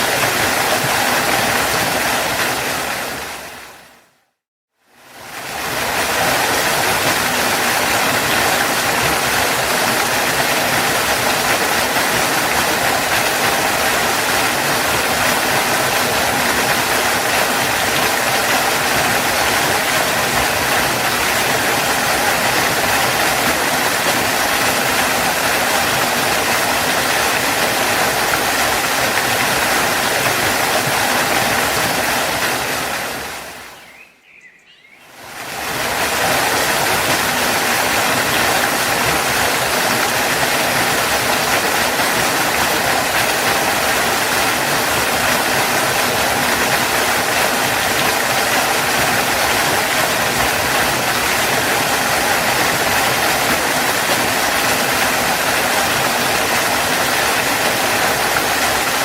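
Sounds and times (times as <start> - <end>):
waterfall rushing: 0.0 - 4.2, 5.0 - 59.0.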